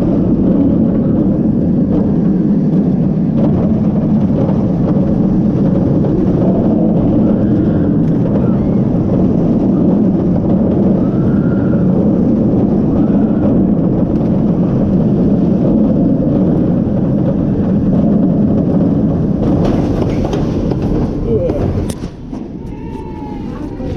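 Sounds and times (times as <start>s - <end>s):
roller coaster rumbling on track: 0.0s - 23.9s
wind buffeting microphone: 0.0s - 23.9s.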